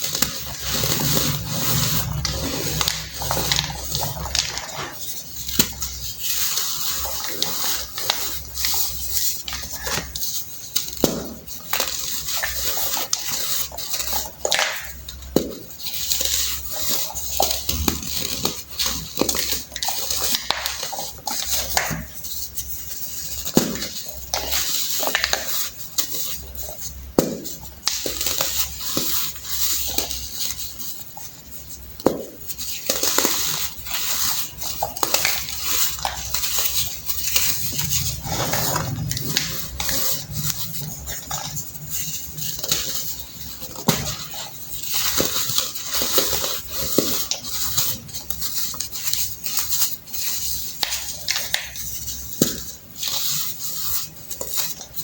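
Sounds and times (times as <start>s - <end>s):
baking soda blocks crunching: 0.0s - 55.0s.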